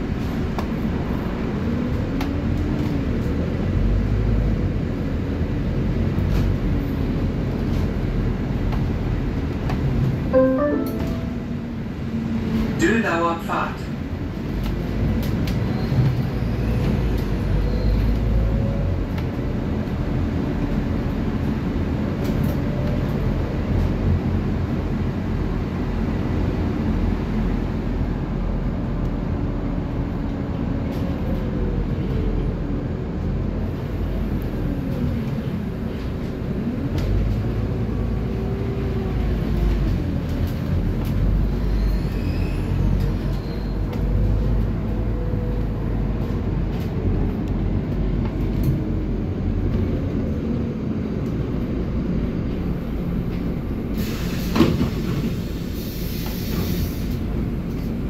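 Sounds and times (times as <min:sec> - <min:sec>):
bus engine running: 0:00.0 - 0:58.0
road rumble: 0:00.0 - 0:58.0.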